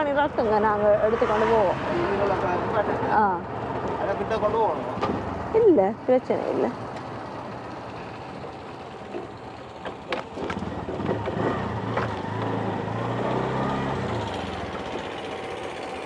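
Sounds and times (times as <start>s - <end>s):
auto-rickshaw engine running: 0.0s - 16.0s.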